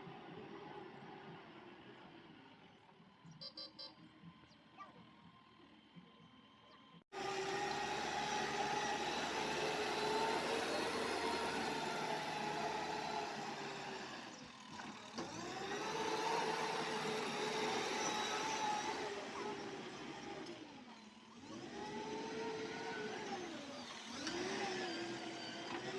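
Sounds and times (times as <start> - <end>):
heavy vehicle engine whining hum: 0.0 - 25.9.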